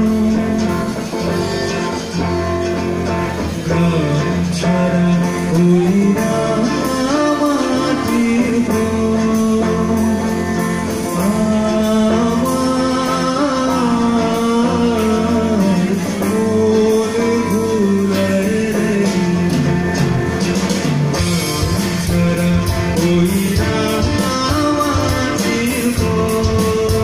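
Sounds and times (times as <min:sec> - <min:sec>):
live rock band playing: 0:00.0 - 0:27.0
man singing: 0:00.0 - 0:27.0.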